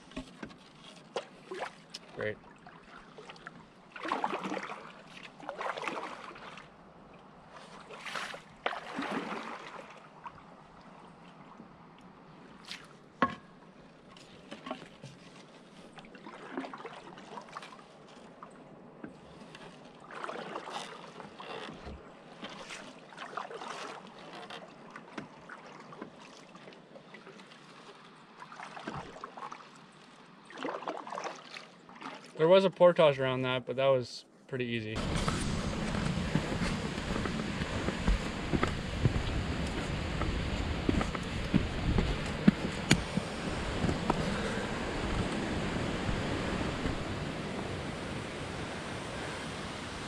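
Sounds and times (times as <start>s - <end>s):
paddle splashing in water: 0.0s - 11.7s, 12.5s - 32.5s, 35.0s - 50.0s.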